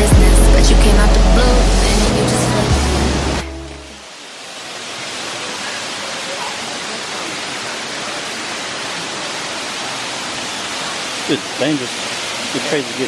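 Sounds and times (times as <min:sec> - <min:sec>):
waterfall rushing hiss: 0:00.0 - 0:13.0.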